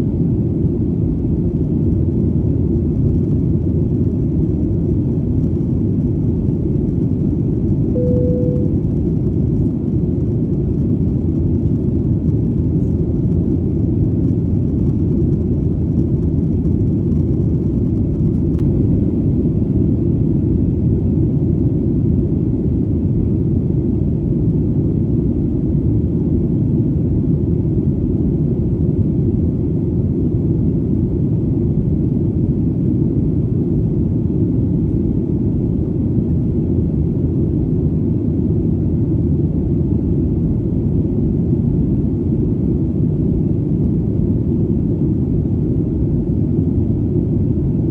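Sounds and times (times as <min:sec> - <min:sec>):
airplane engine drone: 0:00.0 - 0:47.9.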